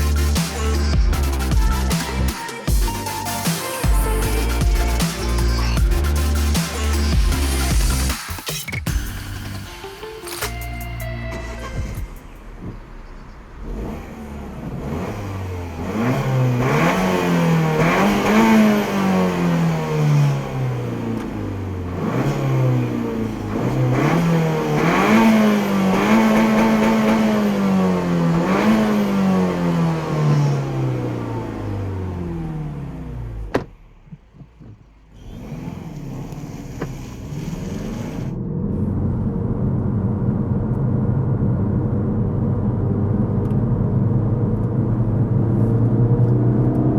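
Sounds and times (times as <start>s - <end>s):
car engine revving: 0.0s - 9.2s, 11.2s - 46.9s.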